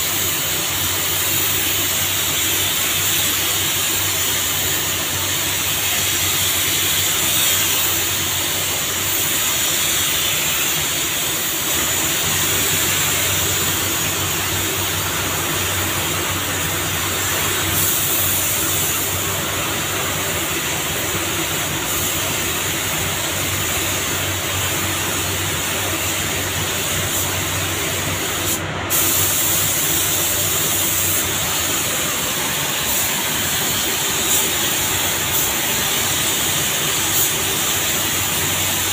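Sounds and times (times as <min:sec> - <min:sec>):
paint spray gun hissing: 0:00.0 - 0:38.9.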